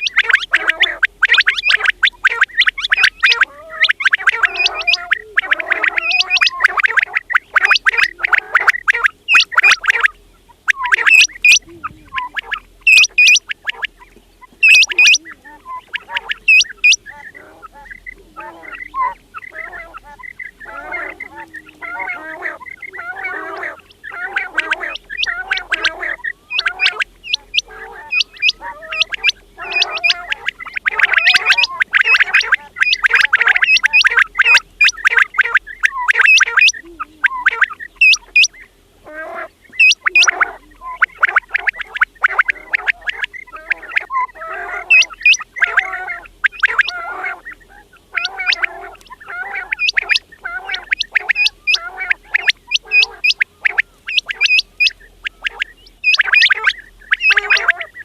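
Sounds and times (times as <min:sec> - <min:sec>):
quails calling: 0:00.0 - 0:58.0.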